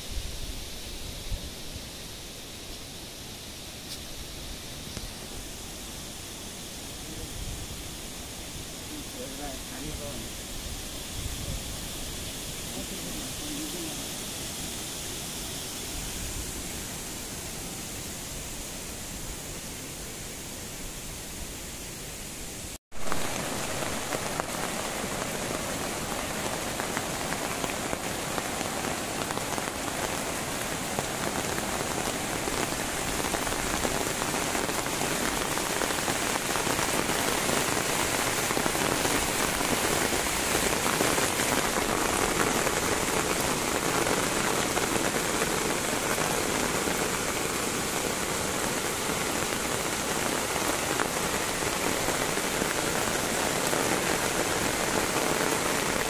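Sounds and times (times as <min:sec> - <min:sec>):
rain falling on wet ground: 0:00.0 - 0:56.0.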